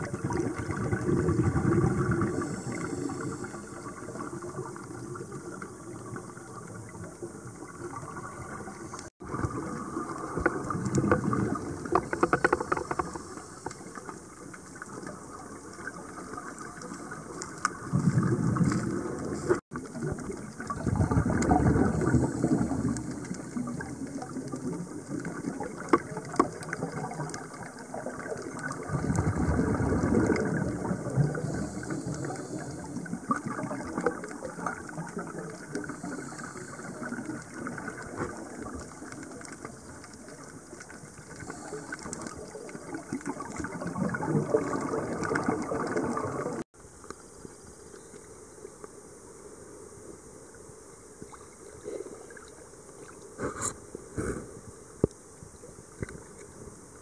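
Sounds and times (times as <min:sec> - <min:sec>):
underwater air bubbling: 0:00.0 - 0:46.7.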